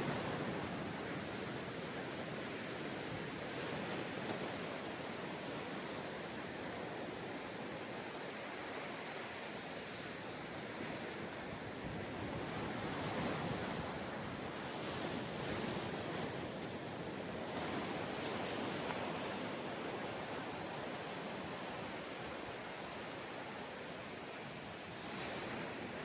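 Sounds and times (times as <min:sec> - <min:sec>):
ocean waves on sandy beach: 0:00.0 - 0:26.0.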